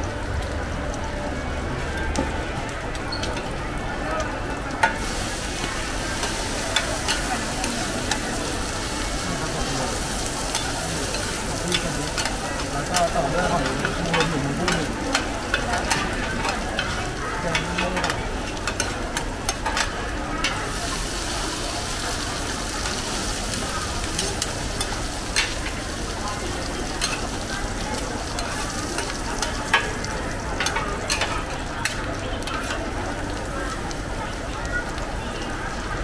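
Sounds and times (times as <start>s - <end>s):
omelets sizzling in oil: 0.0s - 36.0s.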